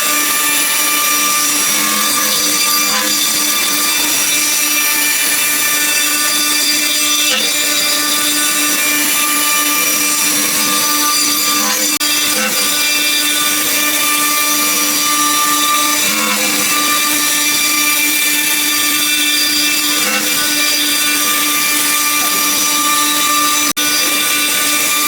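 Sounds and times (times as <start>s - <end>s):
router spindle whining while cutting: 0.0s - 25.0s.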